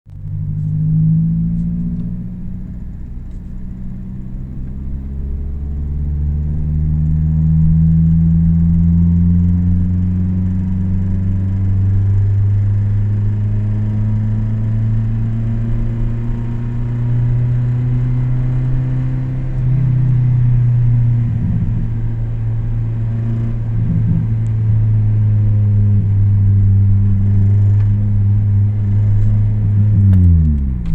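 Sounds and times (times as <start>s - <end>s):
car engine running at raised revs: 0.1s - 30.9s.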